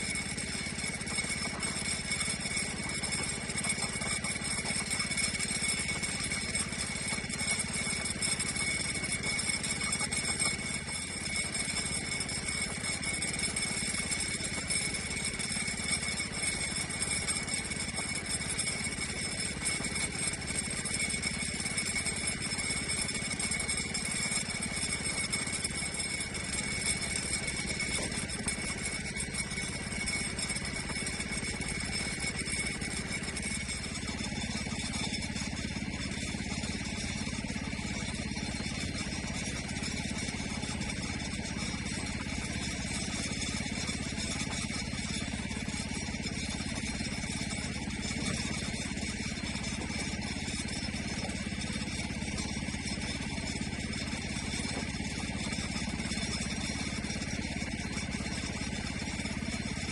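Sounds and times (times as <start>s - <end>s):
saw engine droning: 0.0s - 58.2s
thin high whine: 0.0s - 59.9s.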